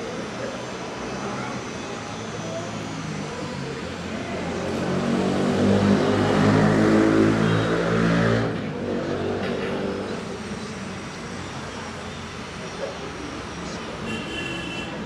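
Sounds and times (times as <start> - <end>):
engine running: 0.0 - 14.4.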